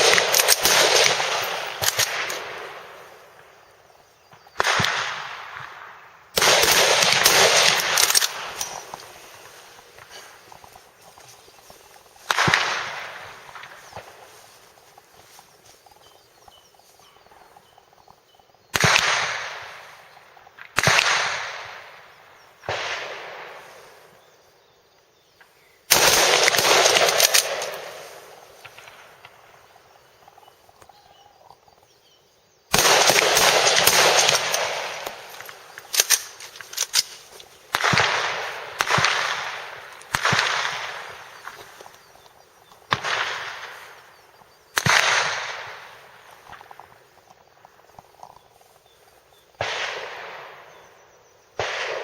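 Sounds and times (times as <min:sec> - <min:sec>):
rifle shots with rolling echo: 0:00.0 - 0:17.8, 0:18.7 - 0:24.3, 0:25.9 - 0:31.4, 0:32.7 - 0:52.0.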